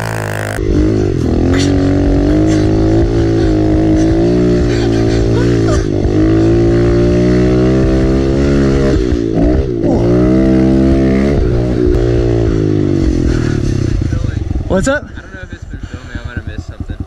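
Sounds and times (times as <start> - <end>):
dirt bike engine running hard: 0.0 - 17.0.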